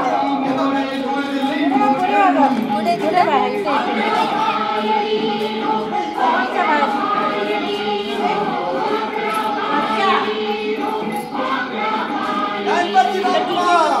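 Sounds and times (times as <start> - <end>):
group chanting: 0.0 - 14.0.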